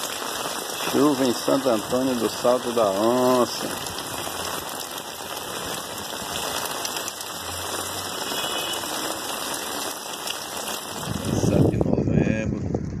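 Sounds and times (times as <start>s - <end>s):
heavy rain on wet pavement: 0.0s - 13.0s.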